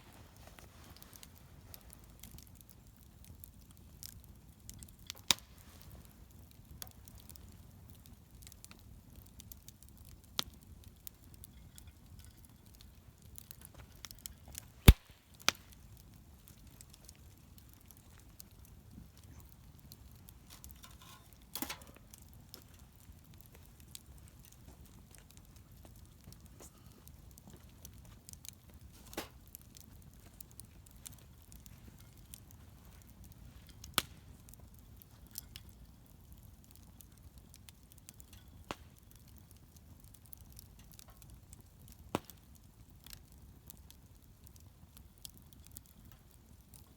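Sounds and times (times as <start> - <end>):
bonfire pops and snaps: 0.0 - 46.9
low rumble of burning fire: 0.0 - 46.9.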